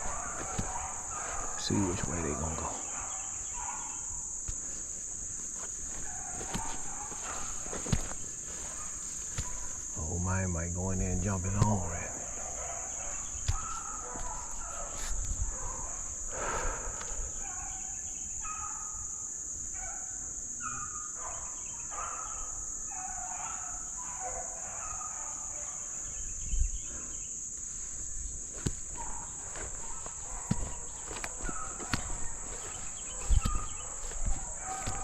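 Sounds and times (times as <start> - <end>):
distant hounds baying: 0.0 - 35.0
high drone of insects: 0.0 - 35.0.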